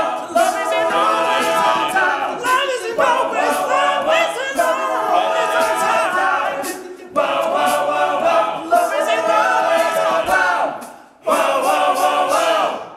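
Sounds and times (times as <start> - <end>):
men singing in harmony: 0.0 - 12.9.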